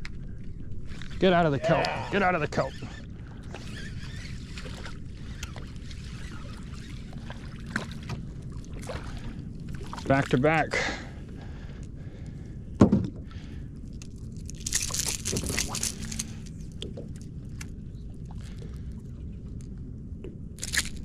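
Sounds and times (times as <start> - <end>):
small boat hum: 0.0 - 21.0.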